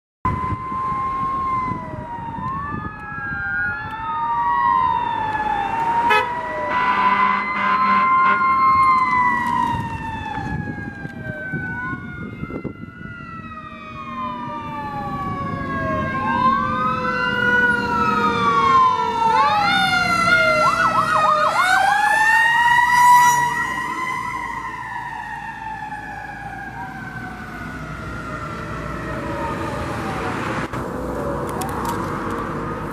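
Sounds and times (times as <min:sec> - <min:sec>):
fire engine siren wailing: 0:00.3 - 0:32.9.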